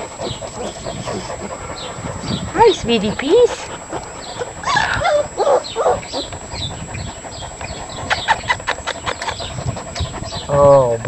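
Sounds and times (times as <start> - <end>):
puppies whining and yelping: 0.1 - 2.8, 3.4 - 10.5.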